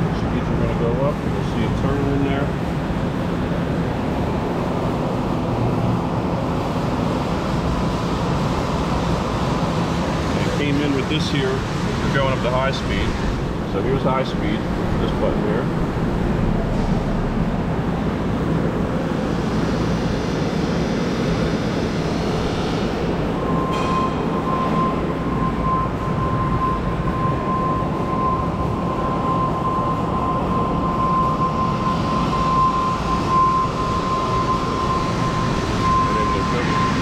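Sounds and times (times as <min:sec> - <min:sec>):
high whine: 0:00.0 - 0:37.0
mixer mechanical rush: 0:00.0 - 0:37.0.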